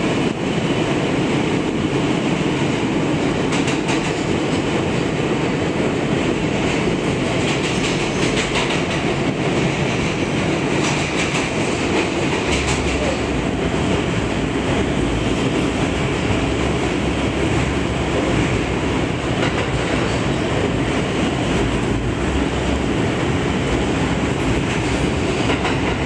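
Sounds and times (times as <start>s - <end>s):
subway train rumbling in tunnel: 0.0s - 26.0s.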